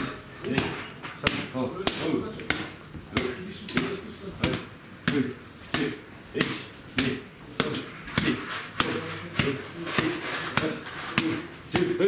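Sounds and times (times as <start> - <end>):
boxing gloves smacking focus mitts: 0.0 - 12.0.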